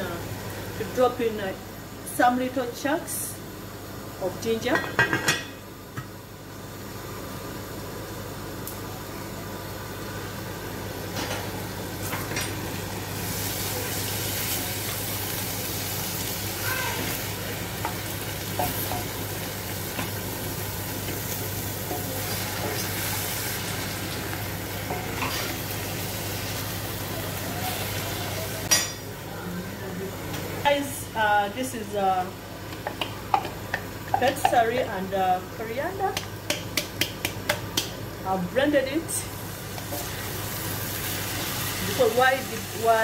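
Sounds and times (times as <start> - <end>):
rice sizzling in a pot: 3.6 - 29.7, 31.4 - 43.0.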